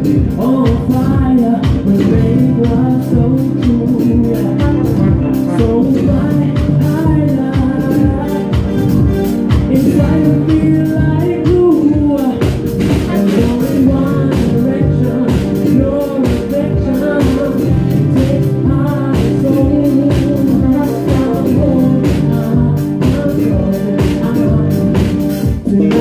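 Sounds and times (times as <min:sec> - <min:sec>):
drum kit beat: 0:00.0 - 0:26.0
electric bass: 0:00.0 - 0:26.0
male singer: 0:00.0 - 0:26.0.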